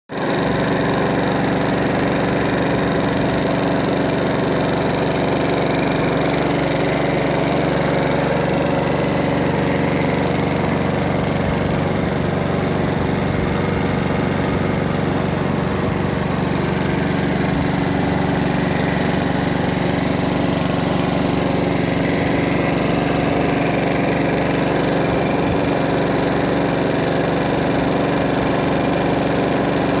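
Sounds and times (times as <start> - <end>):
lawnmower engine running: 0.1 - 30.0.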